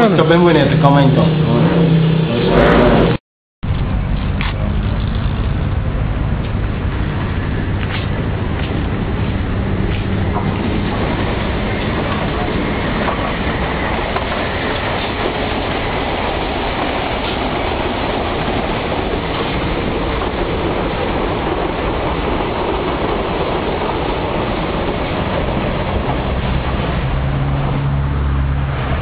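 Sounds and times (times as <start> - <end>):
electric train running on tracks: 3.8 - 29.0.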